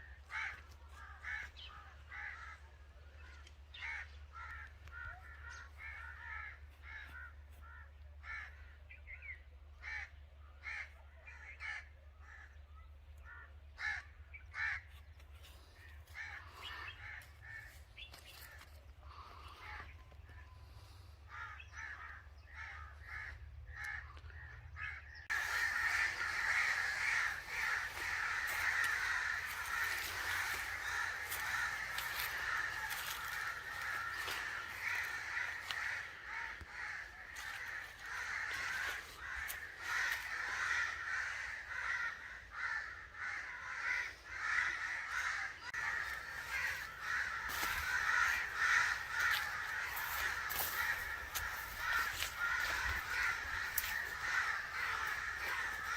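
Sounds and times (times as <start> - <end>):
crows cawing: 0.0 - 55.9.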